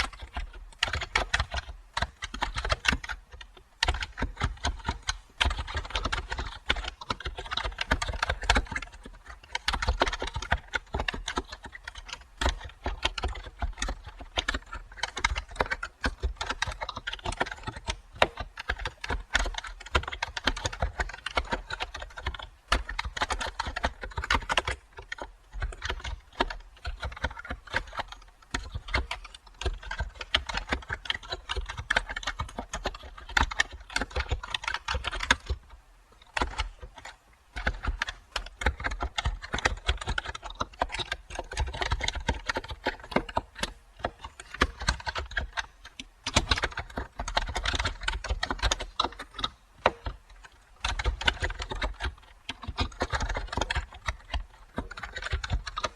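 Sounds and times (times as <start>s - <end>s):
typing on a keyboard: 0.0s - 55.9s.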